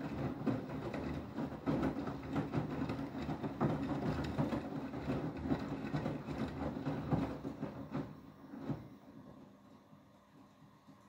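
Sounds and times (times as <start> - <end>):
water sloshing in washing machine: 0.0 - 11.0.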